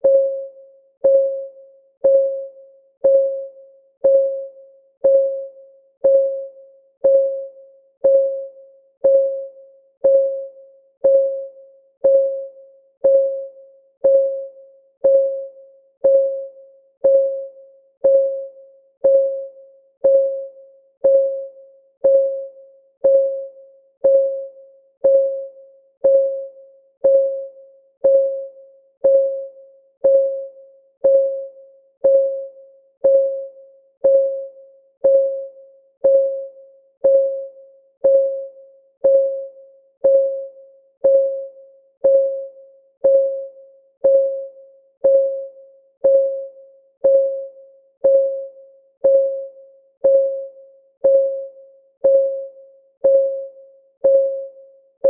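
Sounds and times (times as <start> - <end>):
pitched timer ticks: 0.0 - 54.6.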